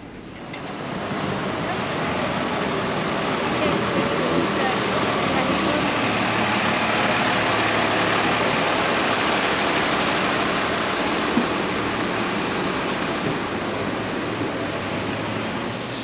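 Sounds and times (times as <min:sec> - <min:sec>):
rumble of passing vehicles: 0:00.0 - 0:16.0.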